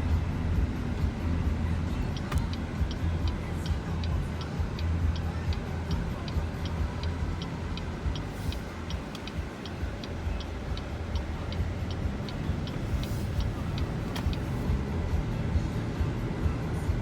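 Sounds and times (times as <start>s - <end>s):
car road and engine rumble: 0.0s - 17.0s
turn signal ticking: 0.0s - 17.0s.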